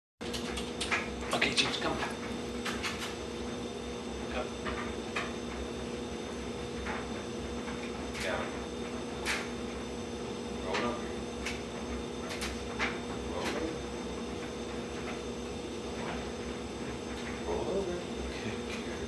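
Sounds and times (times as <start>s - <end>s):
steady electrical hum: 0.2s - 19.0s.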